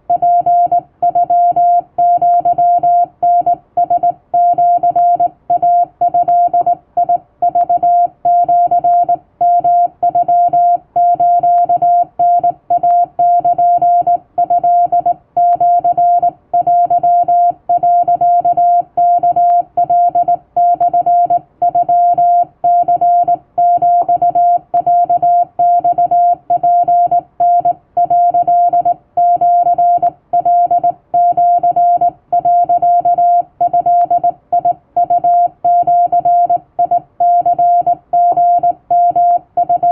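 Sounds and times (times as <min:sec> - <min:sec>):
morse code beeps: 0:00.1 - 0:39.9.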